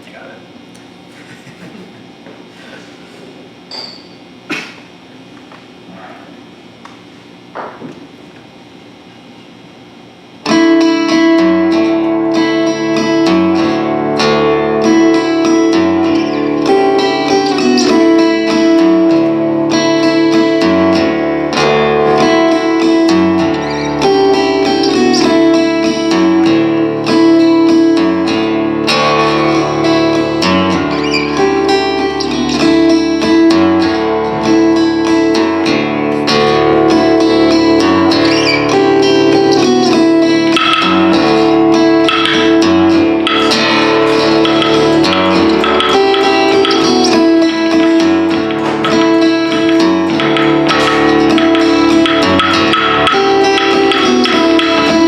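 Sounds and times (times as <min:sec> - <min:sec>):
plucked strings: 0:10.5 - 0:55.0.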